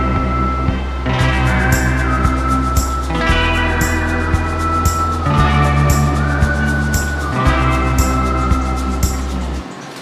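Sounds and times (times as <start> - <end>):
slow rock music: 0.0 - 9.6
gliding electric guitar: 0.0 - 9.7.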